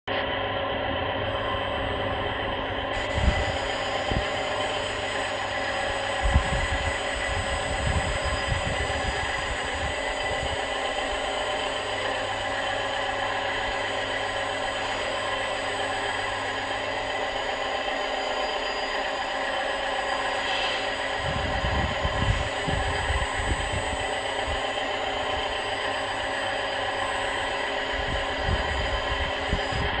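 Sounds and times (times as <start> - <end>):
electric motor and gearbox whining: 1.2 - 30.0.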